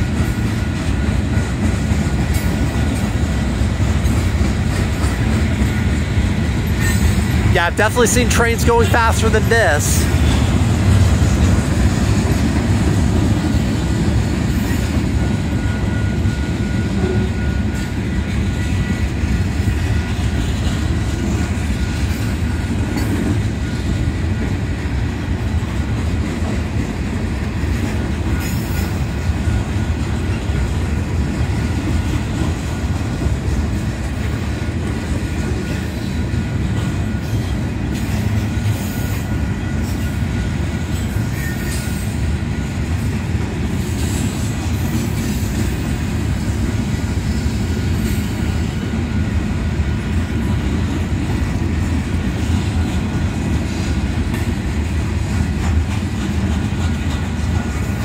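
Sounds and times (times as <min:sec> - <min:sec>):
train clanks: 0:00.0 - 0:58.0
train wheels rumbling on rail: 0:00.0 - 0:58.0.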